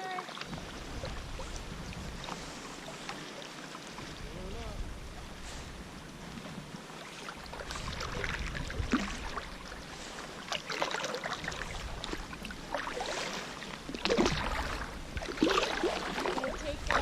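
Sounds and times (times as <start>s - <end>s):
paddle splashing in water: 0.0s - 17.0s.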